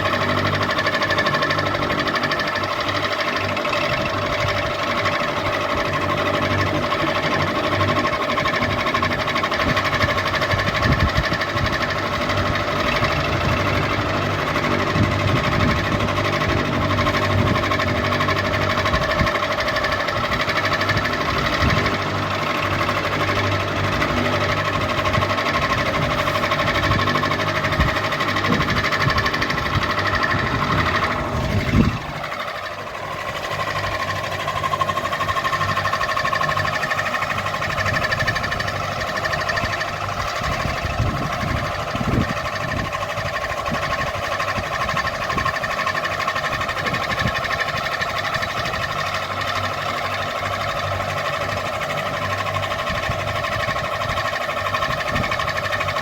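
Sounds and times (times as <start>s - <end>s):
rattling clatter: 0.0s - 56.0s.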